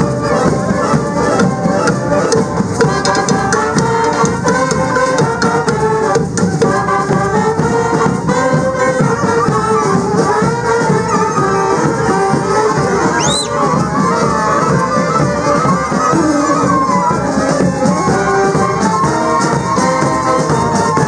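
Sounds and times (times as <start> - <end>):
wind band playing lively tune: 0.0 - 21.0.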